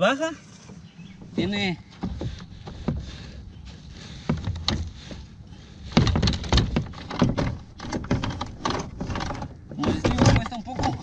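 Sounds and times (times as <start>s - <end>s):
seat frame clunks and knocks: 0.7s - 3.4s, 4.0s - 11.0s.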